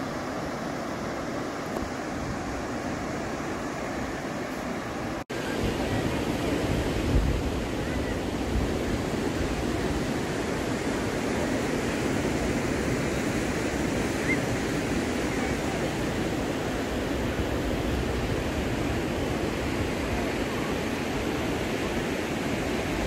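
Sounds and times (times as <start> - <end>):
surf washing onto beach: 0.0 - 23.0
wind rumbling on microphone: 0.0 - 23.0.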